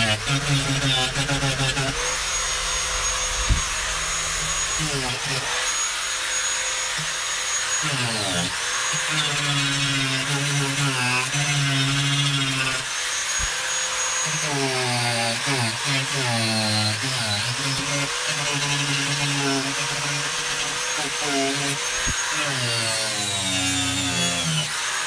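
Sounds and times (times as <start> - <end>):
rotary tool grinding metal: 0.0 - 25.0.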